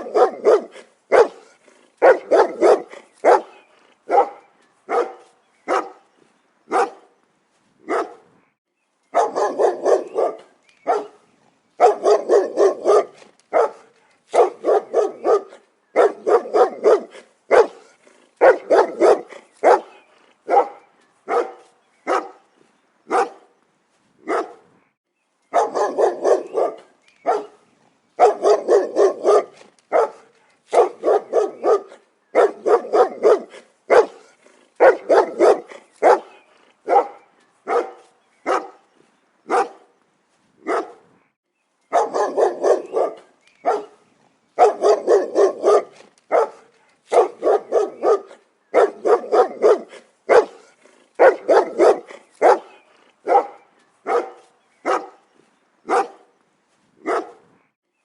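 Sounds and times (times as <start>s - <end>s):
dog barking: 0.0s - 6.0s, 6.7s - 7.1s, 7.9s - 8.3s, 9.1s - 11.2s, 11.8s - 22.4s, 23.1s - 23.5s, 24.2s - 24.7s, 25.5s - 27.6s, 28.2s - 38.8s, 39.5s - 39.9s, 40.6s - 41.1s, 41.9s - 44.0s, 44.6s - 55.2s, 55.9s - 56.3s, 57.0s - 57.5s.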